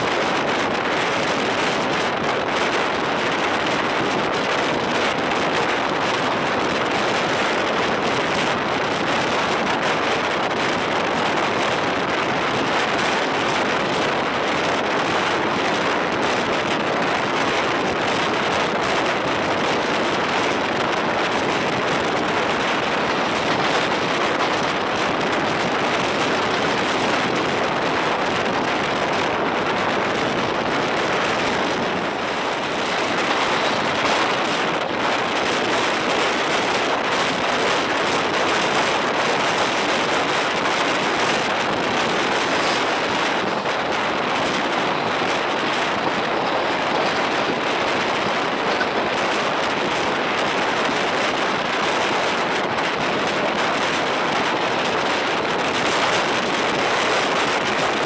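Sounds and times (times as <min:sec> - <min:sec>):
train wheels on rail: 0:00.0 - 0:57.5
wind rushing on microphone: 0:00.0 - 0:58.0.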